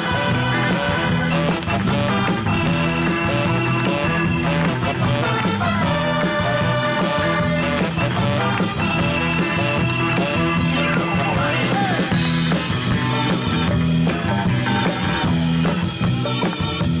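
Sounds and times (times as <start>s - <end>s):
instrumental music with steady beat: 0.0s - 17.0s.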